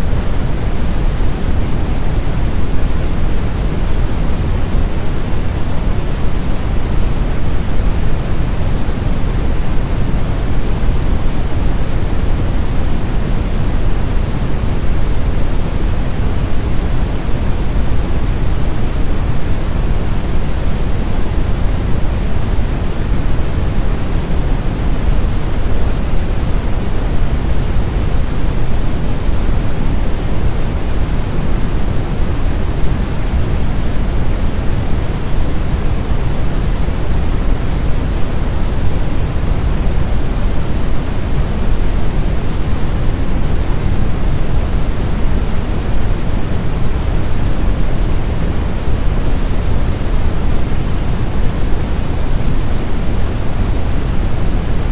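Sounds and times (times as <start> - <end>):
brown noise rumbling hiss: 0.0 - 54.9.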